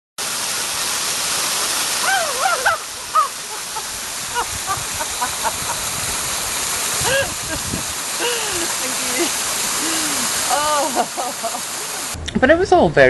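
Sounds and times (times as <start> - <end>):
waterfall rushing: 0.2 - 12.2.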